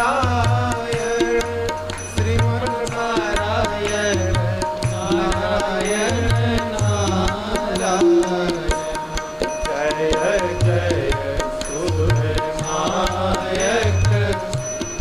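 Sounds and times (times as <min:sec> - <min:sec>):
devotional music melody: 0:00.0 - 0:15.0
drums in steady rhythm: 0:00.0 - 0:15.0.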